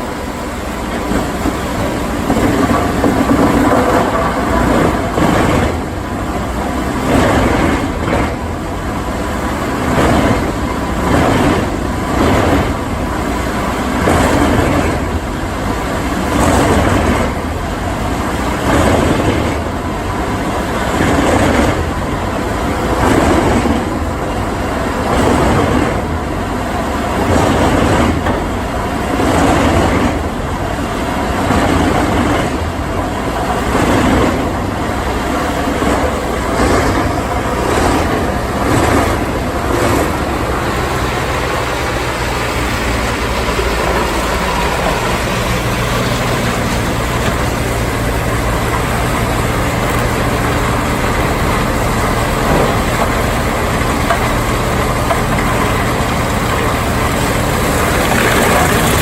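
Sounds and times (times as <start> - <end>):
wood chipper engine droning: 0.0 - 59.0.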